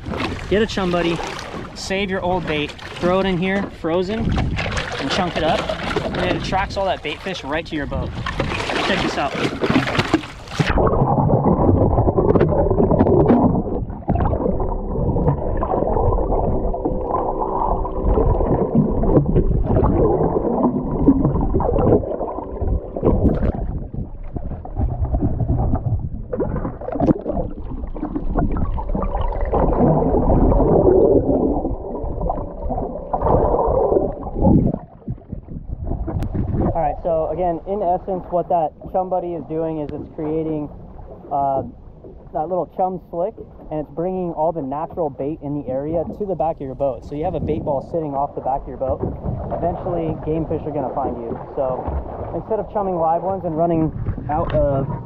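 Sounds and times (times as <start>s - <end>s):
underwater water sloshing: 0.0s - 55.0s.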